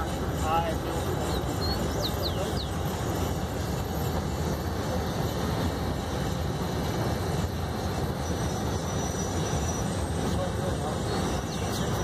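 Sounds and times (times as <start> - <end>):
train wagons rumbling: 0.0 - 12.0.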